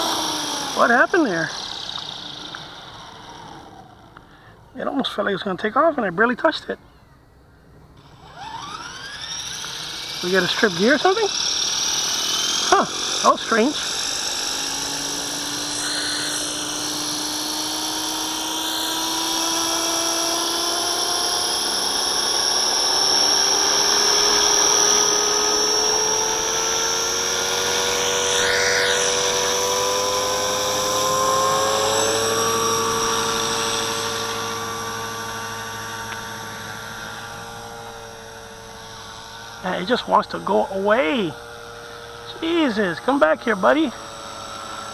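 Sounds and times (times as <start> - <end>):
rc helicopter motor whine: 0.0 - 4.8, 7.9 - 44.9.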